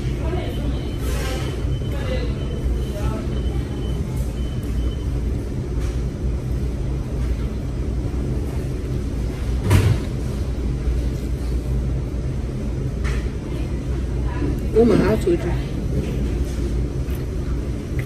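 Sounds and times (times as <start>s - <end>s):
restaurant background rumble: 0.0s - 18.0s.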